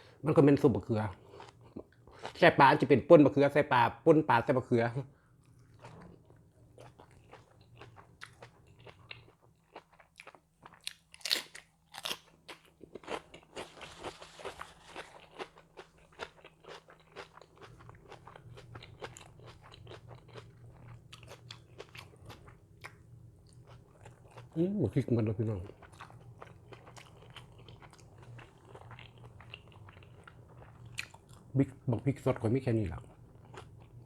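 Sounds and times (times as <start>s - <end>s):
person chewing crunchy food: 1.1s - 2.4s, 5.4s - 24.7s, 25.4s - 31.5s, 33.0s - 34.0s.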